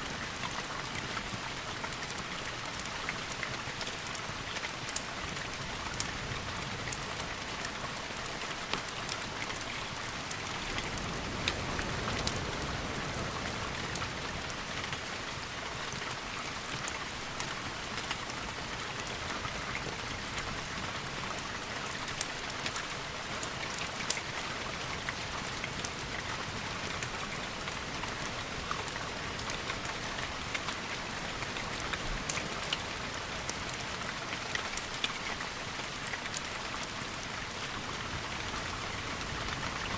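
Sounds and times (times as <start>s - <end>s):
steady rain with sharp ticks: 0.0s - 39.9s.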